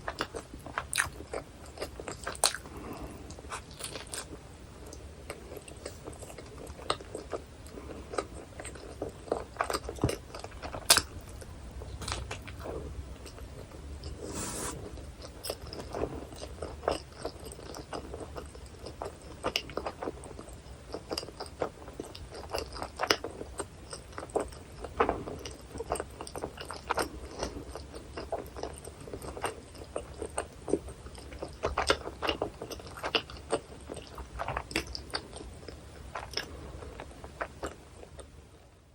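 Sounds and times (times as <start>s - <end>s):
chewing and biting food: 0.0s - 38.4s.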